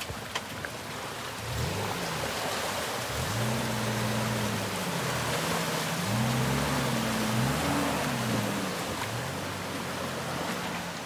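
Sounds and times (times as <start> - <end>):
water rushing and splashing: 0.0 - 11.0
car engine revving: 1.4 - 10.8.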